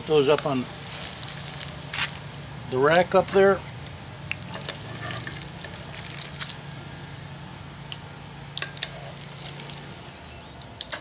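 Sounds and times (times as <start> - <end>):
onion rings deep-frying: 0.0 - 11.0.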